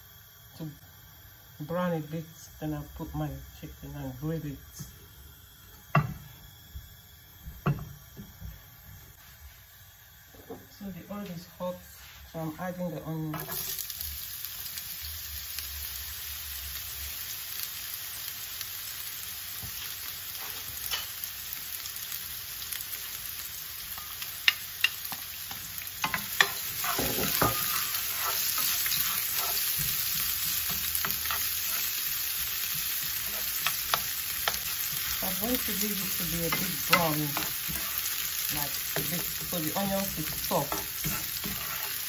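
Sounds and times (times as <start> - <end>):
onion sizzling in oil: 0.0 - 42.0.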